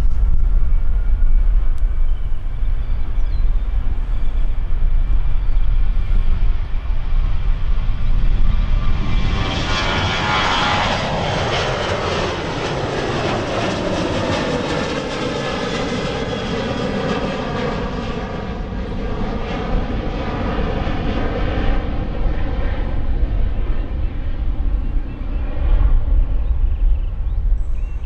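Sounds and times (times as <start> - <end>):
jet airliner engine rumble: 0.0 - 28.0.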